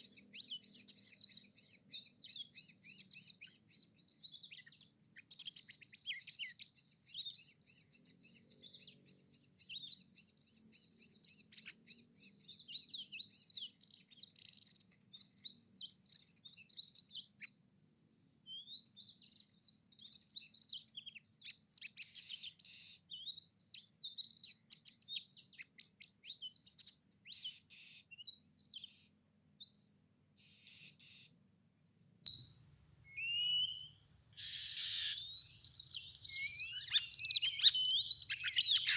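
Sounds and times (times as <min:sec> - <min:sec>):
bird song chirps and whistles: 0:00.0 - 0:38.9.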